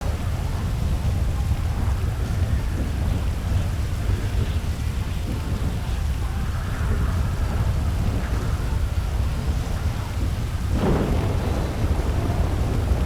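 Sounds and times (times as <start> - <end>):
hard rain: 0.0 - 13.0.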